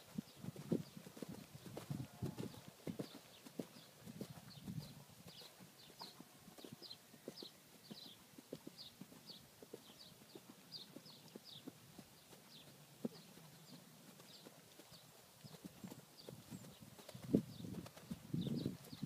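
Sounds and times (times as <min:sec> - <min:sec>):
hoofbeats on grass: 0:00.0 - 0:19.0.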